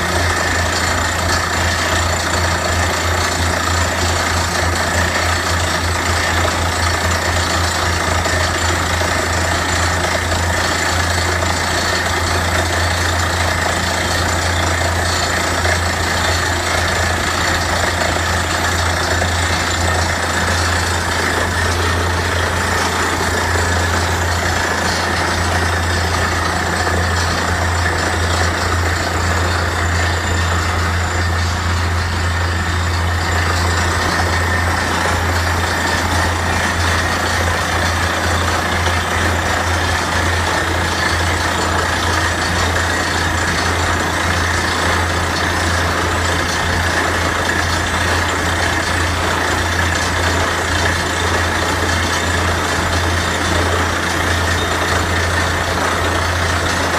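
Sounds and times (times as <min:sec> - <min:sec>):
drilling rig engine humming: 0:00.0 - 0:56.9
machine noise: 0:00.0 - 0:56.9.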